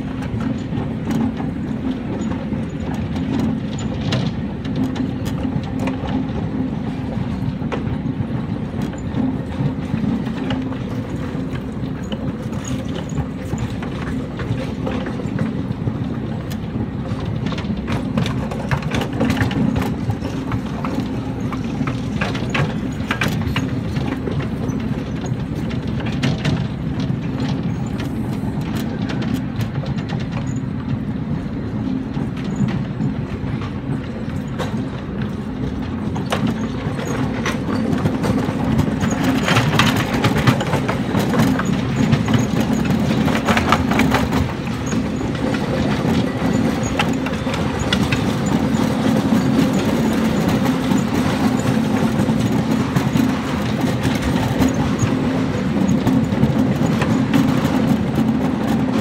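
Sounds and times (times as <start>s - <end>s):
clicks and clanks from rail joints: 0.0s - 59.0s
train wheels rumbling on rail: 0.0s - 59.0s.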